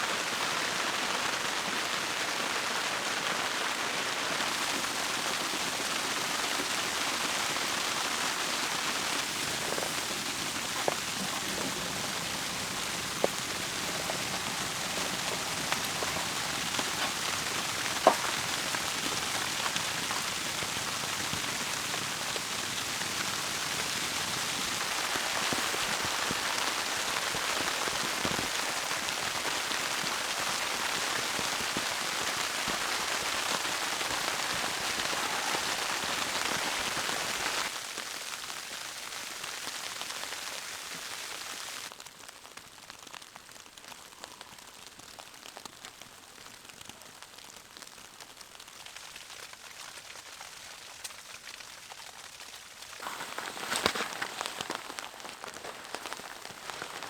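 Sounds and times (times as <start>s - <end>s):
rain hiss and patter: 0.0s - 57.0s.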